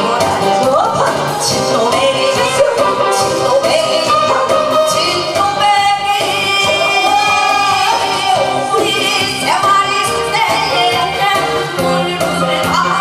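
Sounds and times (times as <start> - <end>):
loud amplified backing music: 0.0 - 13.0
woman singing into a microphone: 0.0 - 13.0.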